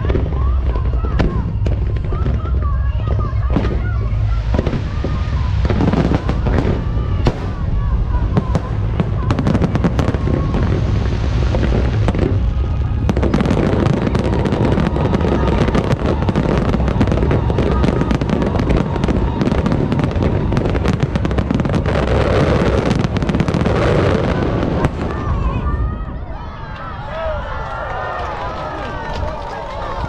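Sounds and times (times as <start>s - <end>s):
fireworks crackling: 0.0s - 26.1s.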